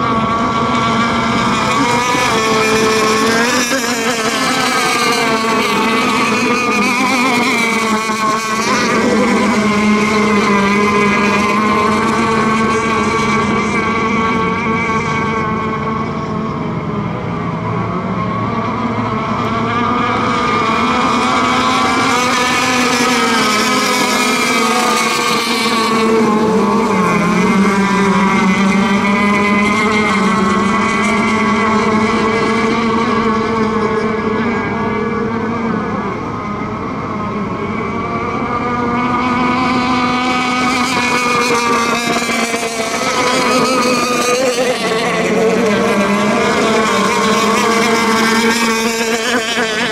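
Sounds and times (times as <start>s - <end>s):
model boat engines at high revs: 0.0s - 49.9s.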